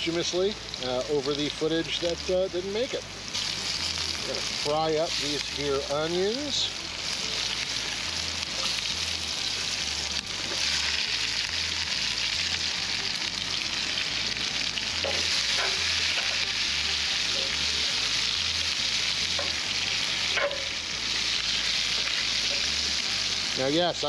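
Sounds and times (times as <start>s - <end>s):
onions sizzling in a pan: 0.0s - 24.0s.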